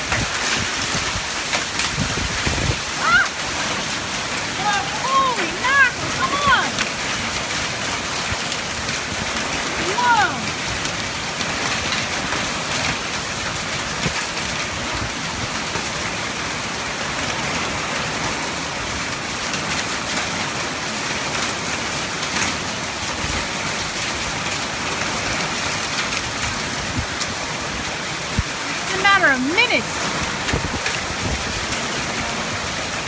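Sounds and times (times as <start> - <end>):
heavy rain and hail: 0.0 - 33.0.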